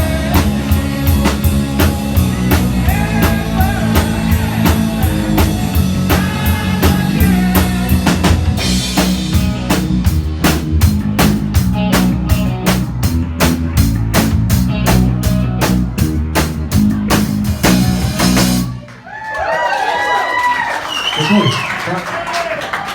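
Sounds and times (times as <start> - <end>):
drums hitting a steady beat: 0.0 - 18.8
live rock band playing: 0.0 - 19.0.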